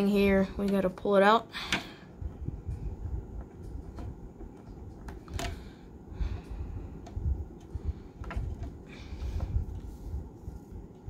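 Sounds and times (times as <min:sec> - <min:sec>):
dull low rumble: 0:01.9 - 0:11.0.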